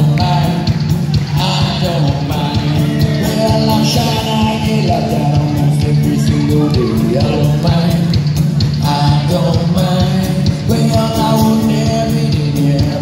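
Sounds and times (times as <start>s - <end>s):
drum beat: 0.0s - 13.0s
guitars and bass: 0.0s - 13.0s
person singing: 0.0s - 13.0s.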